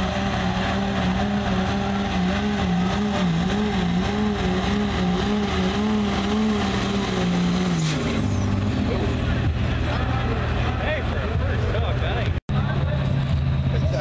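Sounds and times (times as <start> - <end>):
diesel engine at full throttle: 0.0 - 14.0.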